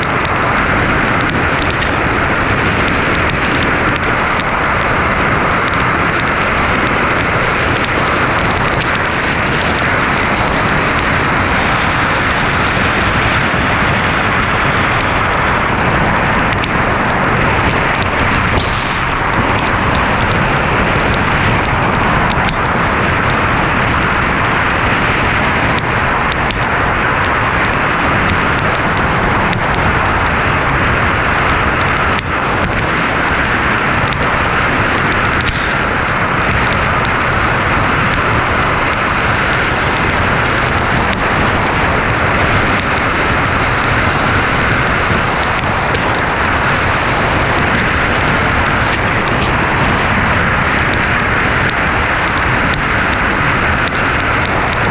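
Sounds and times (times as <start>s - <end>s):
heavy rain and wind on car: 0.0s - 54.9s
tyres on wet road: 0.0s - 54.9s.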